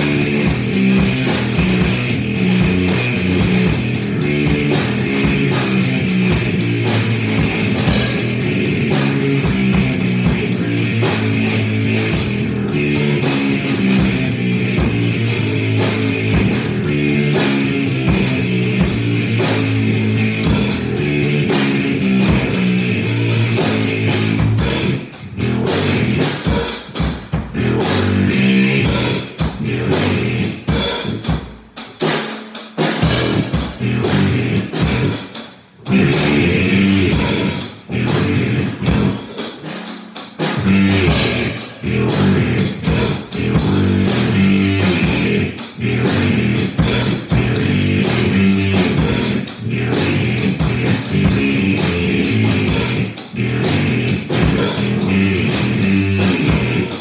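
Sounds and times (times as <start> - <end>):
electric bass: 0.0 - 32.2, 32.8 - 57.0
drum kit: 0.0 - 57.0.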